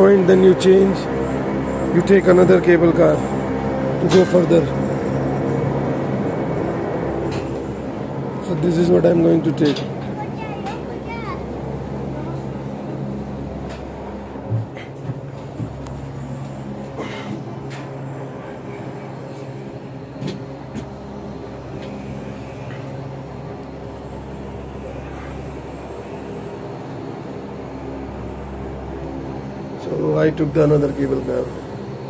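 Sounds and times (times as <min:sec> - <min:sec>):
lift machinery hum: 0:00.0 - 0:32.0.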